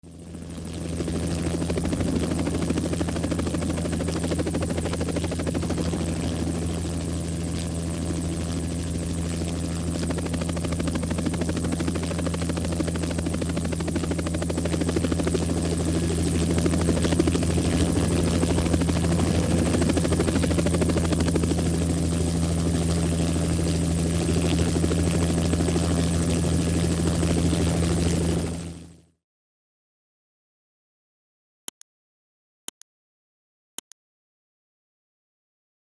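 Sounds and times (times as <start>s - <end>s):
helicopter drone: 0.0s - 29.1s.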